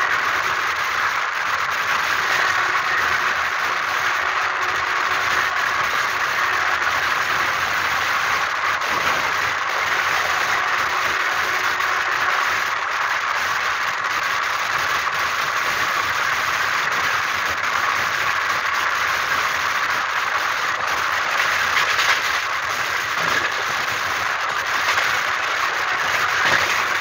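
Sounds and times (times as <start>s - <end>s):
train wheels rushing on rails: 0.0s - 27.0s.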